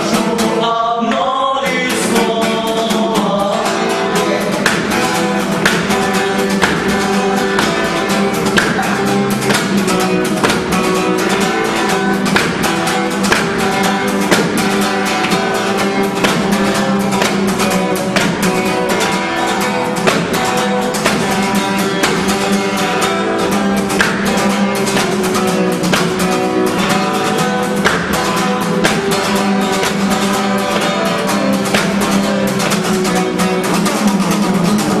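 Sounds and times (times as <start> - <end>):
fast acoustic guitar strumming: 0.0 - 35.0.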